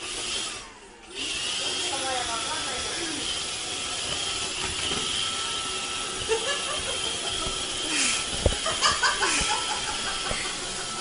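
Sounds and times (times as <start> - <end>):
robot vacuum cleaner whirring: 0.0 - 11.0.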